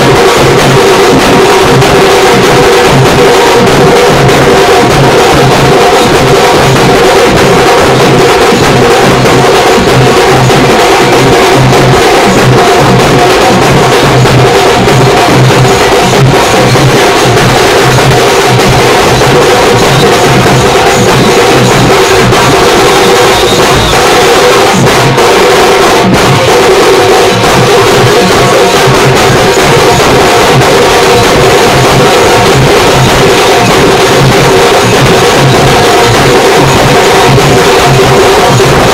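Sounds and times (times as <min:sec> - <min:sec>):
drum-heavy music: 0:00.0 - 0:38.9.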